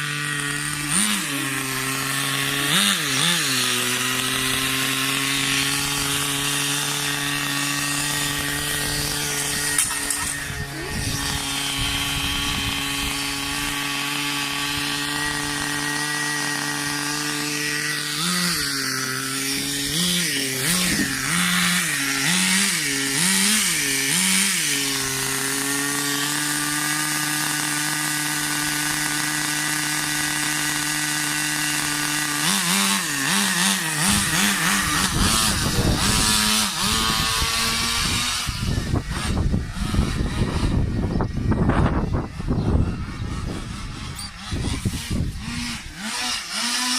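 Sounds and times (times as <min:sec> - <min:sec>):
nitro rc car engine idling: 0:00.0 - 0:46.9.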